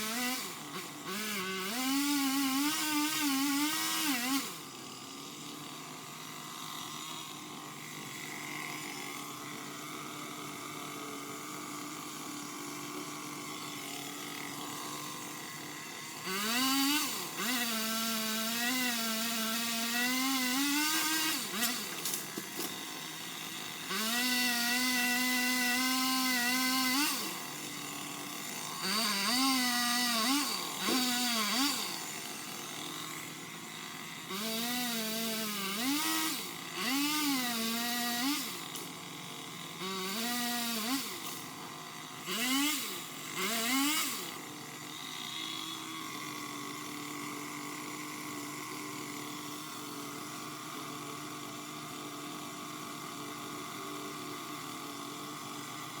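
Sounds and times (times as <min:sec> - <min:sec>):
pole chainsaw revving and cutting: 0:00.0 - 0:56.0.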